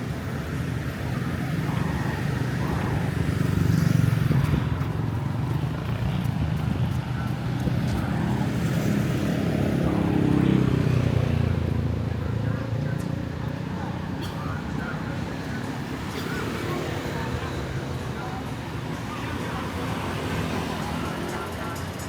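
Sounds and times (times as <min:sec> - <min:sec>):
vehicle engines rumbling: 0:00.0 - 0:22.0.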